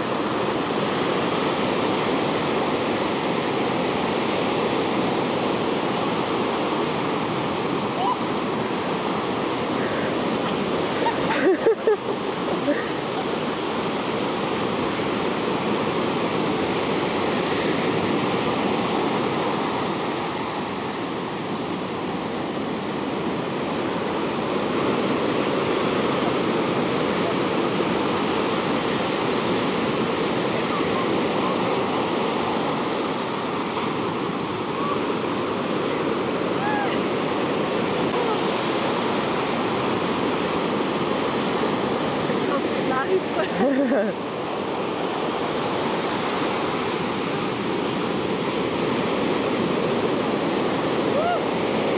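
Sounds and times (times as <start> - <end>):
ocean surf on beach: 0.0 - 51.9.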